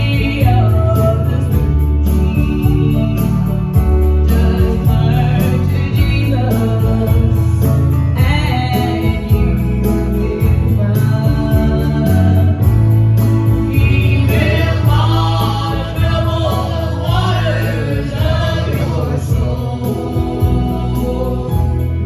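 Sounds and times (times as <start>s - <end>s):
group singing gospel music: 0.0s - 22.0s.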